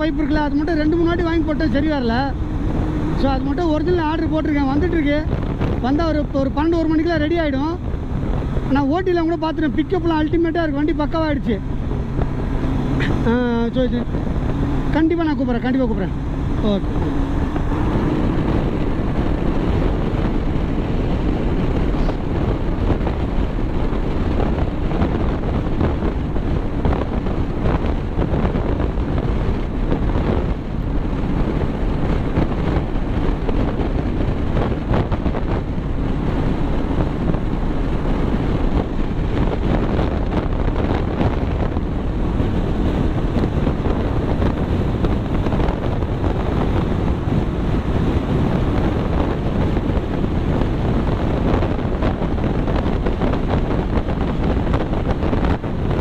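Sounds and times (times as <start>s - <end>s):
low road and vehicle noise: 0.0s - 56.0s
wind buffeting microphone: 0.0s - 56.0s.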